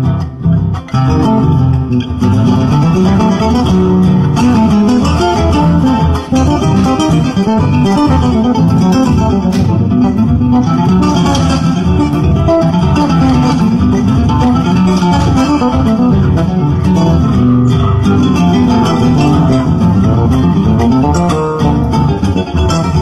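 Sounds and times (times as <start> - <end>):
electric bass: 0.0 - 23.0
plucked string instruments: 0.0 - 23.0.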